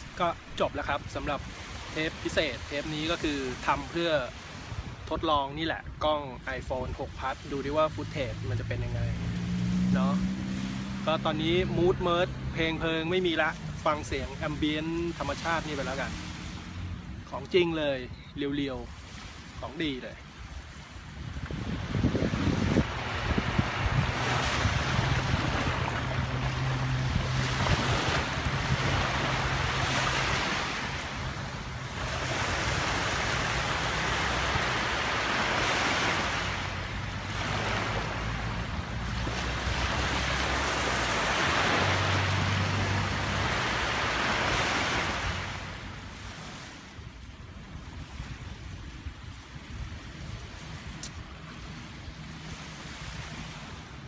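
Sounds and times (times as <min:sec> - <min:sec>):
waves washing onto beach: 0:00.0 - 0:54.0.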